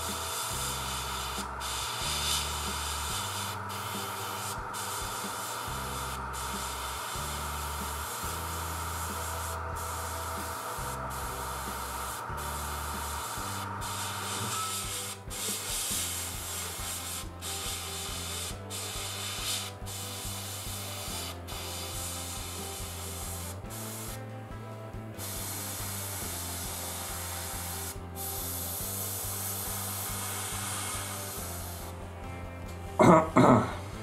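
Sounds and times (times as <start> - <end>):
airbrush hissing: 0.0 - 24.3, 25.2 - 32.2.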